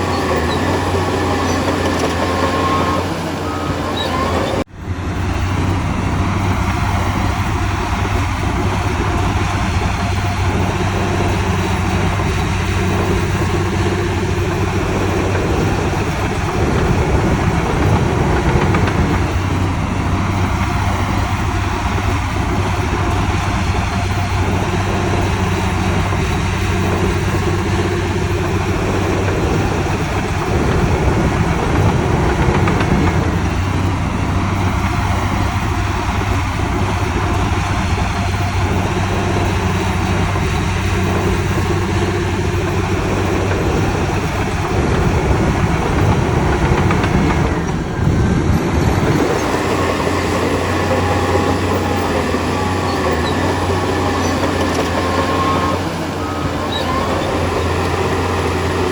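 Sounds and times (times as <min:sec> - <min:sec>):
diesel engine of heavy machinery: 0:00.0 - 0:58.9.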